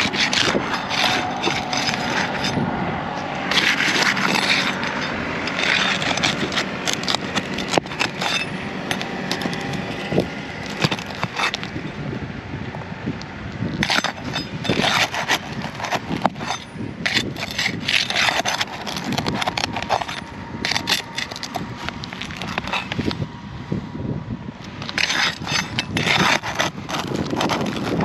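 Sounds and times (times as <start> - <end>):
roof shingles being scraped: 0.0 - 2.6, 3.2 - 11.8, 13.8 - 23.2, 24.8 - 28.0.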